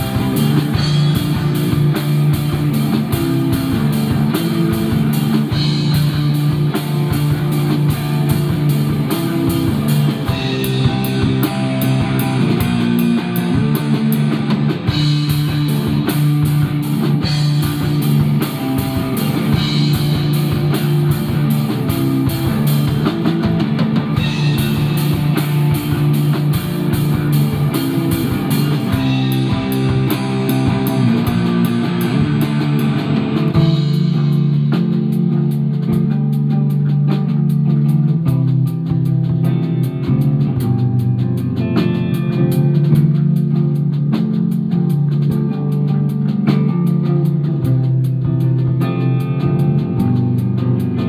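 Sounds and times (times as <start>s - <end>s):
drum kit: 0.0s - 51.0s
electric bass: 0.0s - 51.0s
electric guitar: 0.0s - 51.0s.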